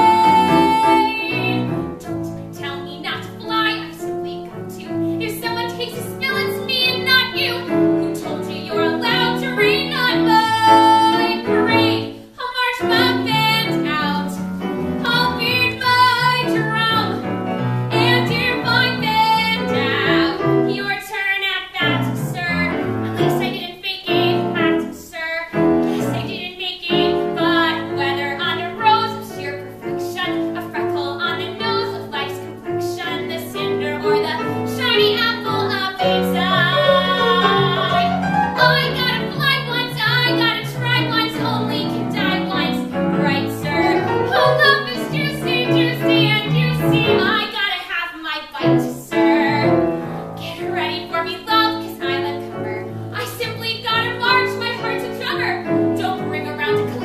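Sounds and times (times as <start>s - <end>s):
woman singing with vibrato: 0.0s - 14.4s, 15.0s - 17.3s, 17.9s - 57.0s
piano accompaniment: 0.0s - 57.0s.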